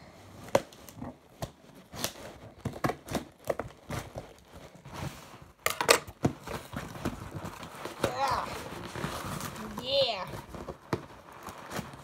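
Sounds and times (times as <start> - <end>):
tape and cardboard crinkling: 0.3 - 12.0.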